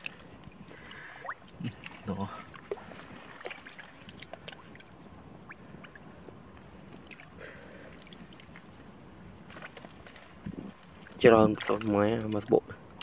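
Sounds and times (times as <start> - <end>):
splashing in shallow muddy water: 0.0 - 13.0.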